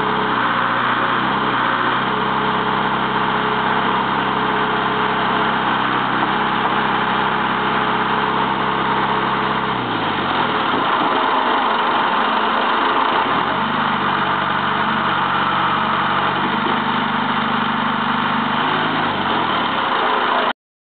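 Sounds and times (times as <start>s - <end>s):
diesel engine running: 0.0s - 20.5s.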